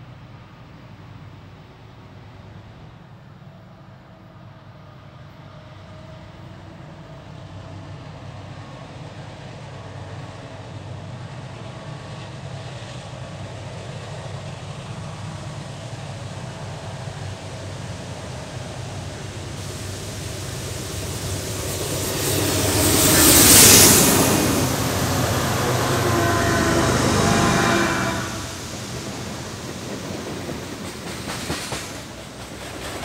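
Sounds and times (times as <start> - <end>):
diesel locomotive engine drone: 0.0 - 33.0
train wheels on rails: 4.9 - 33.0.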